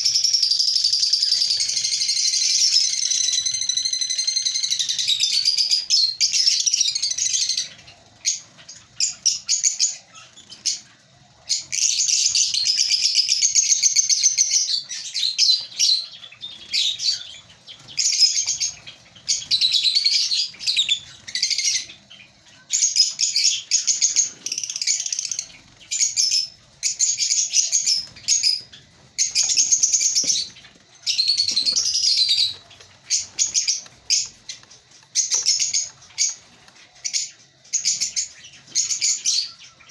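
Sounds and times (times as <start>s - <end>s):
lovebirds chirping shrilly: 0.0s - 39.9s.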